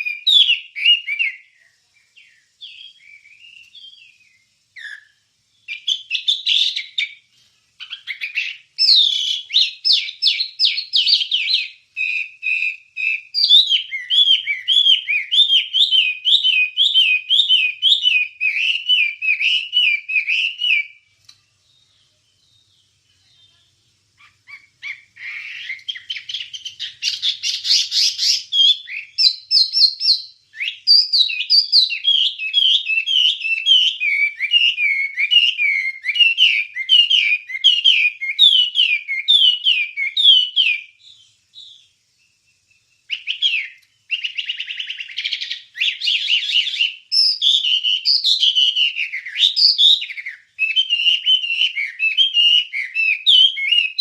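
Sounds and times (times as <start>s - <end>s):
bird singing chattering song: 0.0s - 54.0s.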